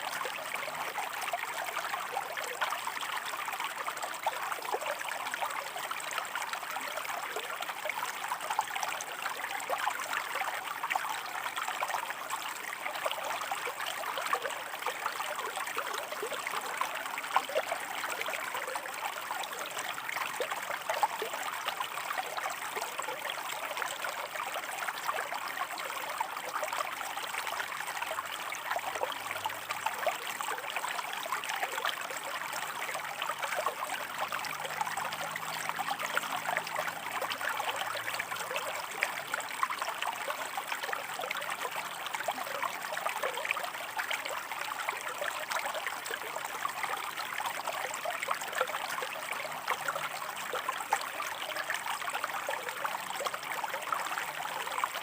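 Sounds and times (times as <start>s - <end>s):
stream splashing over rocks: 0.0s - 55.0s.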